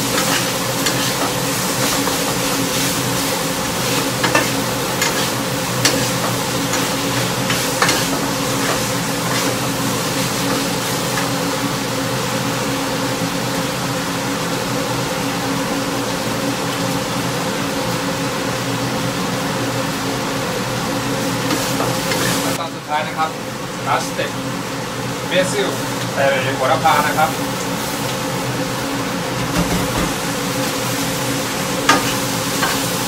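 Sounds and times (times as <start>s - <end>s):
food sizzling in a wok: 0.0s - 33.0s
range hood fan humming: 0.0s - 33.0s.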